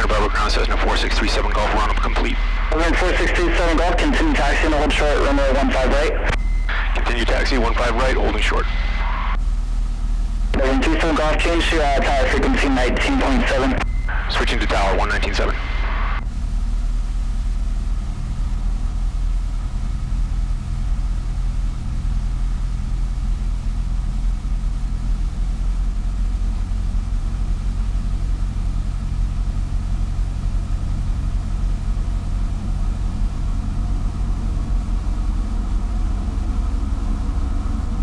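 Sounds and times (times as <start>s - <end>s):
small plane engine and propeller: 0.0s - 38.0s.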